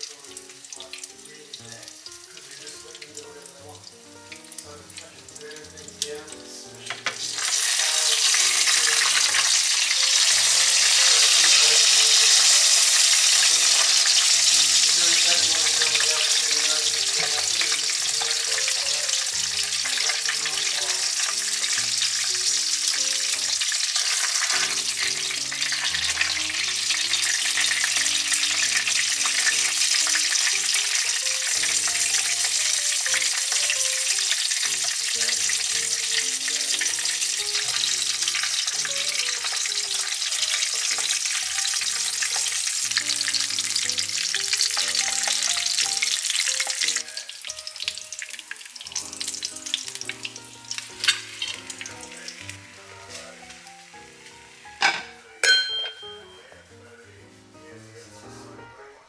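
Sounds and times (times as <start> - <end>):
fish sizzling in hot oil: 0.0 - 55.5.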